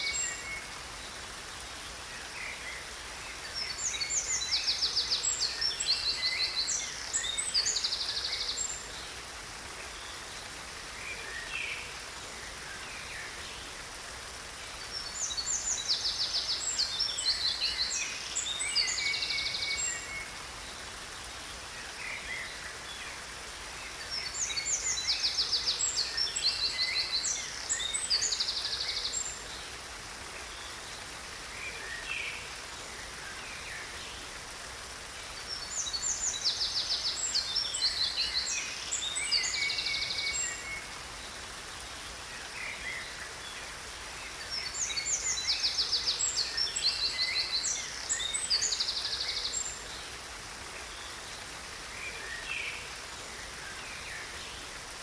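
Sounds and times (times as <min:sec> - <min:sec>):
hiss of falling water: 0:00.0 - 0:55.0
songbirds trilling and chirping: 0:00.0 - 0:55.0.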